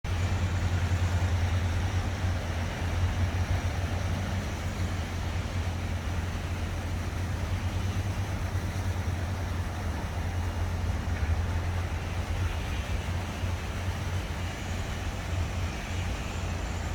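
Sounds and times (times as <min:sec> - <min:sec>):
construction works: 0:00.1 - 0:16.9
distant city noise: 0:00.1 - 0:16.9
water fountains hissing: 0:00.1 - 0:16.9.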